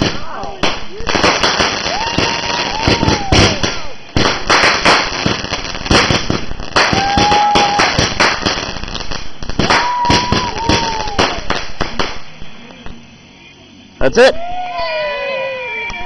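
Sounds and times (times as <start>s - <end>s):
firework barrage bangs and crackle: 0.0s - 13.5s
firework whistling: 0.0s - 16.0s.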